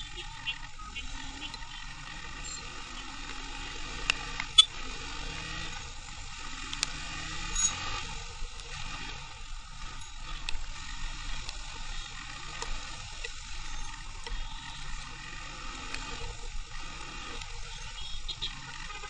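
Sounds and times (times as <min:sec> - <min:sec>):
low motorcycle rumble: 0:00.0 - 0:19.0
wet road hiss: 0:00.6 - 0:18.8.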